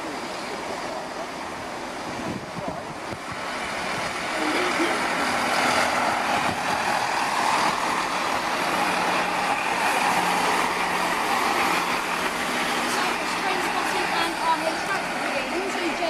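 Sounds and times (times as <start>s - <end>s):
train diesel engine: 0.0s - 16.0s
wheels on rails: 0.0s - 16.0s.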